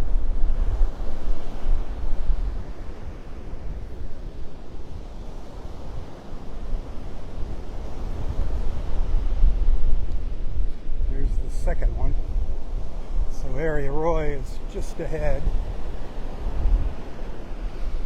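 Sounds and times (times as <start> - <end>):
surf breaking on beach: 0.0 - 18.0
wind buffeting microphone: 0.0 - 18.0.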